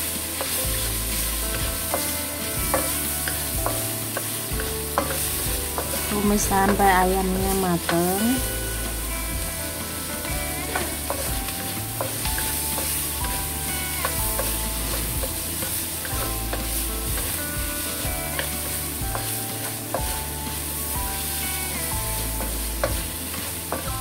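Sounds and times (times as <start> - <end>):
food sizzling in hot oil: 0.0 - 24.0
spatula scraping a wok: 0.0 - 24.0.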